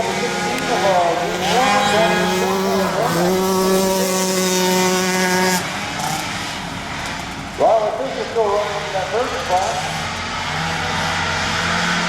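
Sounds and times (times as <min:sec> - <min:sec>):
racing engines revving: 0:00.0 - 0:12.0.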